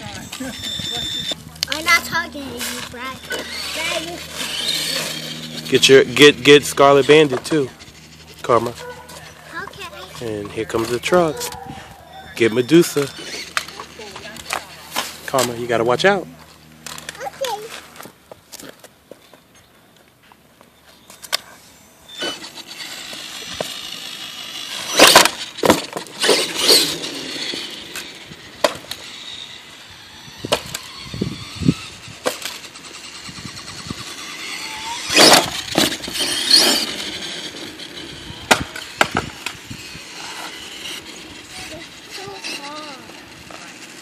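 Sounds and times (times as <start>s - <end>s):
rc truck motor and tyres hissing: 0.0s - 18.1s, 21.3s - 44.0s
rough bursts of skidding: 0.0s - 18.9s, 21.1s - 44.0s.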